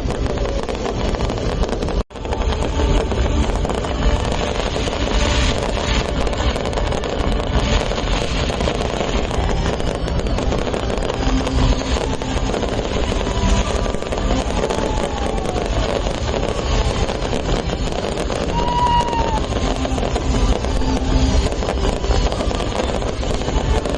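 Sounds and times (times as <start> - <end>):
fireworks crackling bursts: 0.0 - 23.9
low rumble: 0.0 - 23.9.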